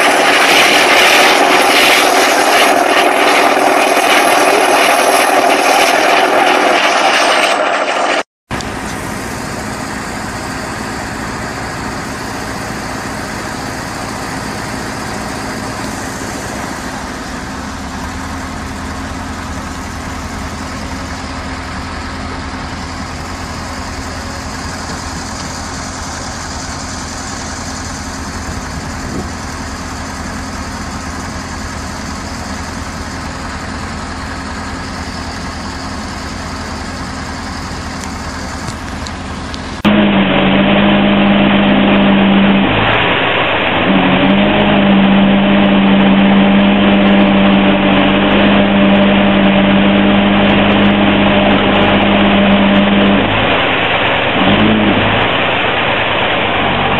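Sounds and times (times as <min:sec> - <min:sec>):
heavy machine engine running: 0:00.0 - 0:56.9
louder engine running: 0:00.0 - 0:56.9.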